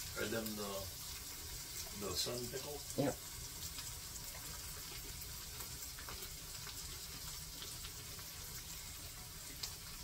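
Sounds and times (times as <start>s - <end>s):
burgers sizzling in a skillet: 0.0s - 10.0s.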